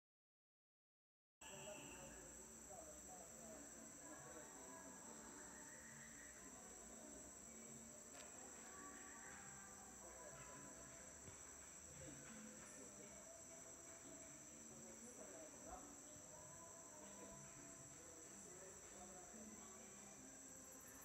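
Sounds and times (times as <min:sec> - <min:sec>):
high-pitched insect chorus: 0:01.4 - 0:21.0.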